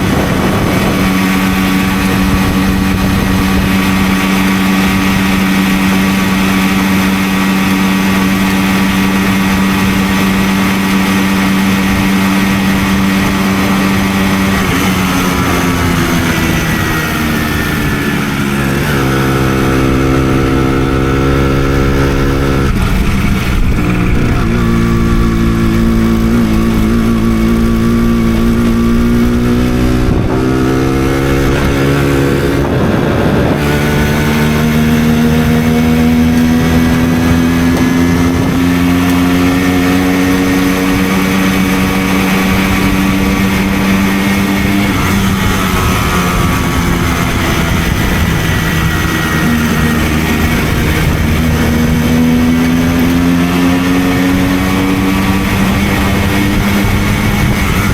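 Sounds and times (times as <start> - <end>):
two-stroke moped engine running: 0.0 - 57.9.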